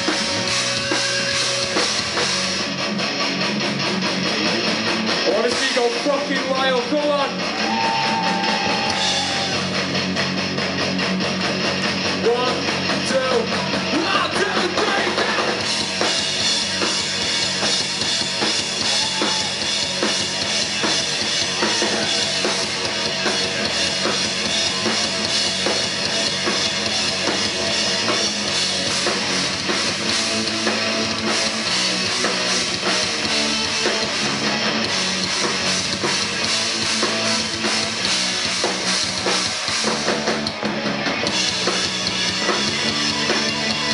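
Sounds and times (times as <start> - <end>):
drum kit beat: 0.0 - 43.9
electric guitars: 0.0 - 43.9.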